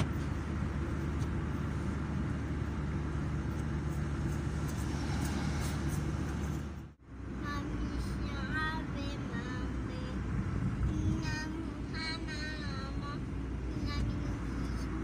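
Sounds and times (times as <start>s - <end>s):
car road and engine hum: 0.0s - 15.0s.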